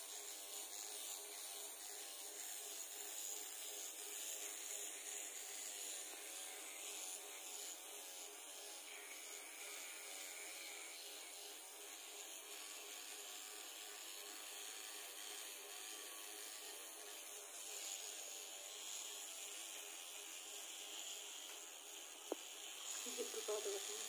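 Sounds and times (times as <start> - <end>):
small motor whirring: 0.0 - 24.0.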